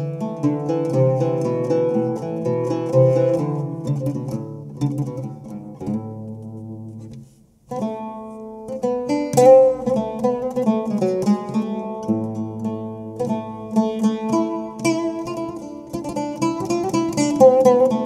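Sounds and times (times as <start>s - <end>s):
oud played with a plectrum: 0.0s - 18.0s.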